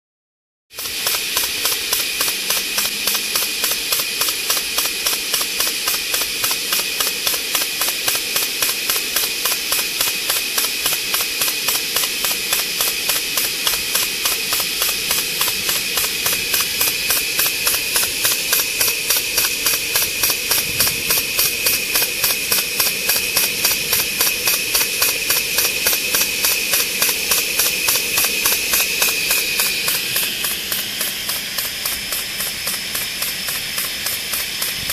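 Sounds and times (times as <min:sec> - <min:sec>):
steam pump strokes: 0:00.7 - 0:34.9
steam hissing: 0:00.8 - 0:34.9.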